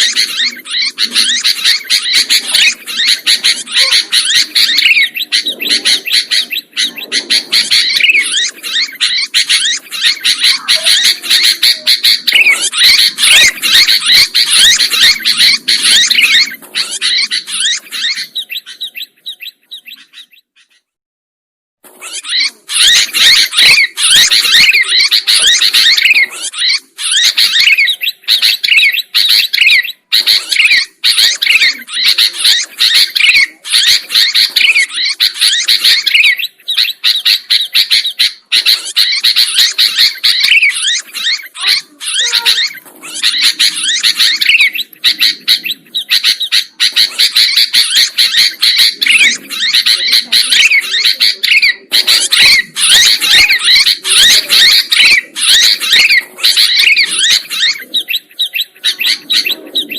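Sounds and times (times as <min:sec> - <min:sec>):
bulbuls calling and chattering: 0:00.0 - 0:21.0, 0:21.8 - 0:59.9.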